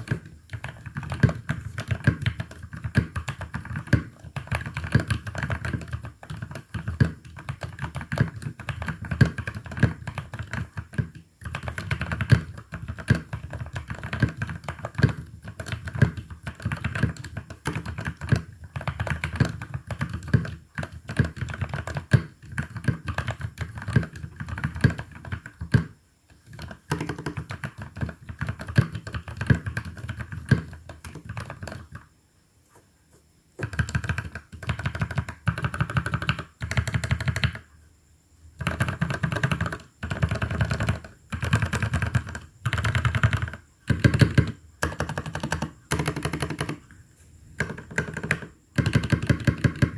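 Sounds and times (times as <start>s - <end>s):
typing on mechanical keyboard: 0.0s - 32.1s, 33.6s - 37.7s, 38.6s - 46.8s, 47.6s - 49.9s.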